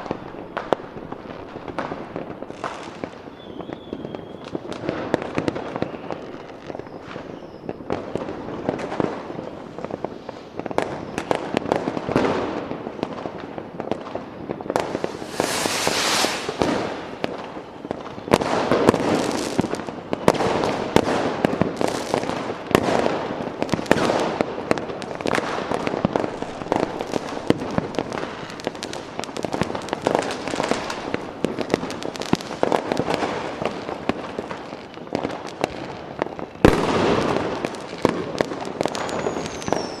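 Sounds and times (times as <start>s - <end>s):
fireworks banging and crackling: 0.0s - 40.0s.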